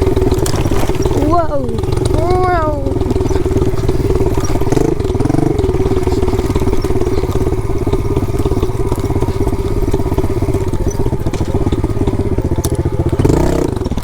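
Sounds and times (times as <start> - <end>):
motorbike engine running: 0.0 - 14.0.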